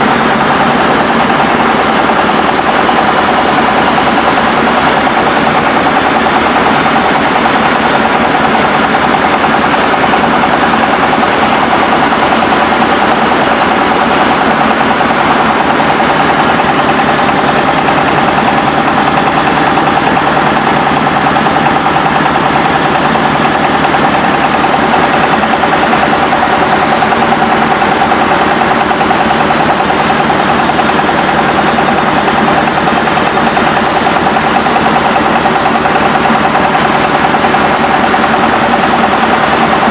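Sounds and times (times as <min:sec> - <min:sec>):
rice milling machine droning: 0:00.0 - 0:39.9.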